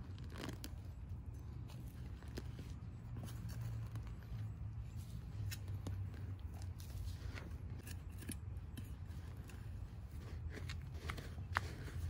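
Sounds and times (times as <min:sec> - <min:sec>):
steady low hum: 0:00.0 - 0:12.0
trowel digging in potting soil: 0:00.0 - 0:12.0.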